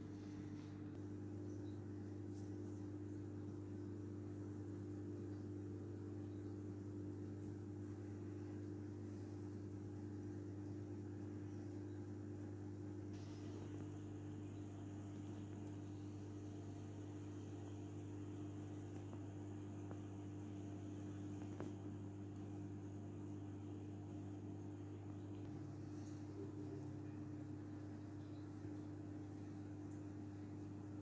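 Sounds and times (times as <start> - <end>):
aquarium filter pump humming: 0.0 - 31.0.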